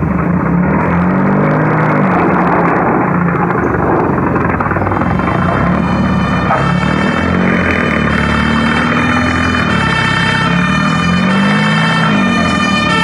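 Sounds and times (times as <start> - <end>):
vehicle engine sound effect: 0.0 - 13.0.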